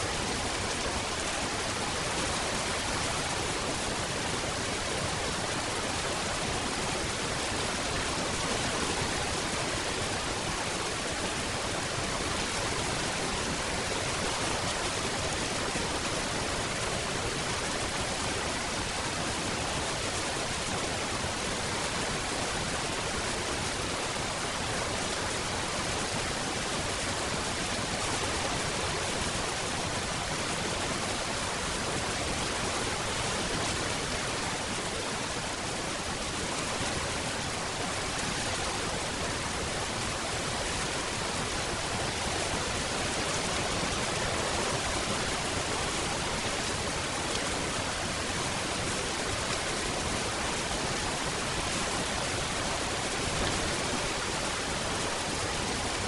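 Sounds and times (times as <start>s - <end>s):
dense rain hissing: 0.0s - 56.0s.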